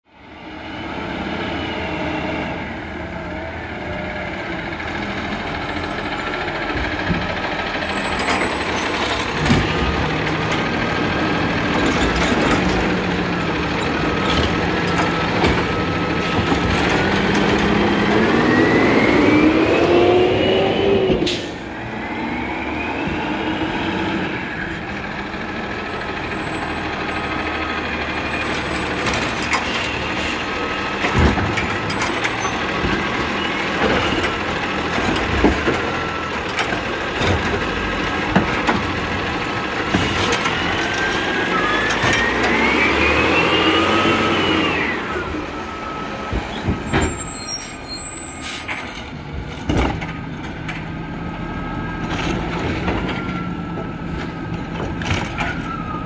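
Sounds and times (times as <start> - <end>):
diesel truck engine running: 2.4 - 48.3.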